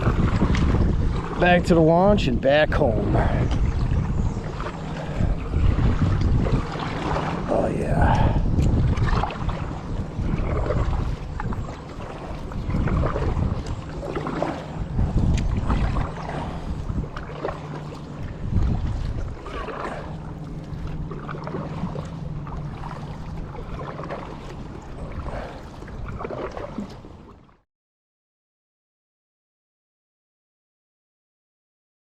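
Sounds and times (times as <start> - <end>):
kayak paddle splashing water: 0.0 - 27.6.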